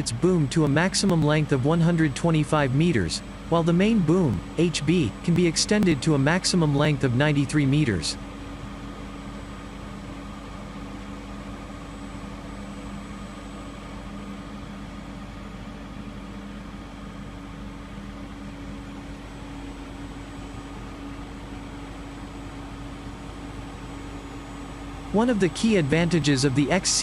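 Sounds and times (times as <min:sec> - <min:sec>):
mechanical hum over low rumble: 0:00.0 - 0:27.0.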